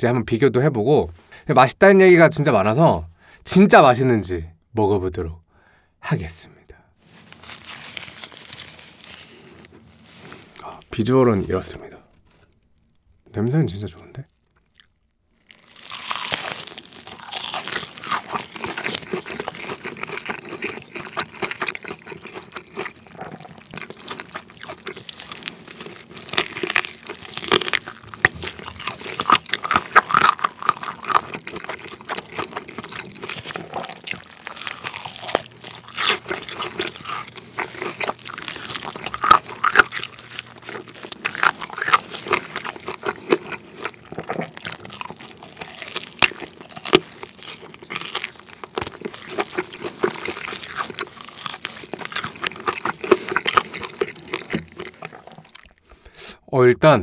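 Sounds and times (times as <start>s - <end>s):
crunching fried chicken: 7.0s - 12.5s, 14.2s - 56.0s
soft chewing: 7.0s - 13.0s, 14.2s - 56.1s.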